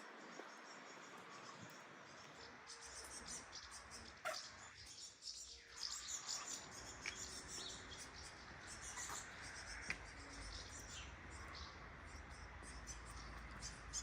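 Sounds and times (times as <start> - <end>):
light rain hissing: 0.0 - 14.0
small birds chirping: 0.0 - 14.0.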